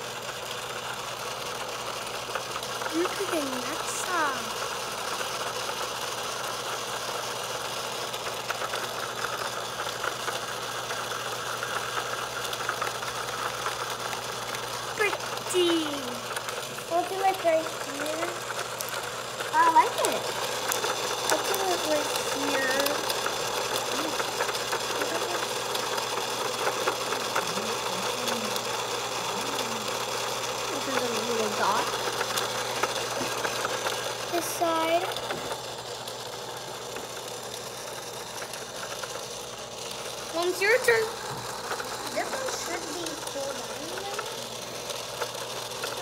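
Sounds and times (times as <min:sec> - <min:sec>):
small electric motor humming: 0:00.0 - 0:46.0.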